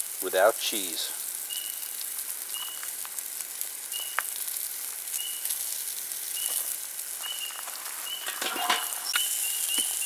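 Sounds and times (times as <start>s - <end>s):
food sizzling on a grill: 0.0s - 10.0s.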